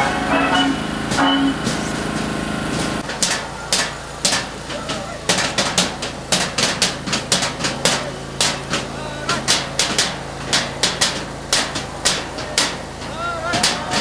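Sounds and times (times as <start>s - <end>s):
hand-struck percussion: 0.0s - 14.0s.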